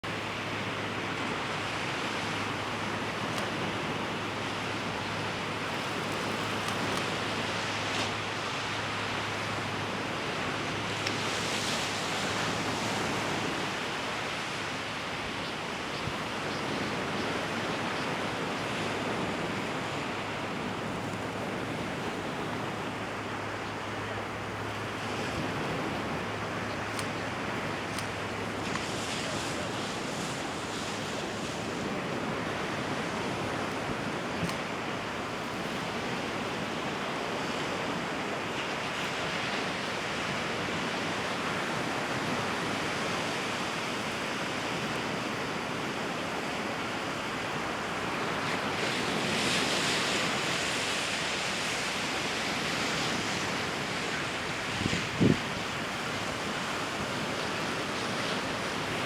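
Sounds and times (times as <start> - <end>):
surf rushing: 0.0 - 59.0
wind: 0.0 - 59.0.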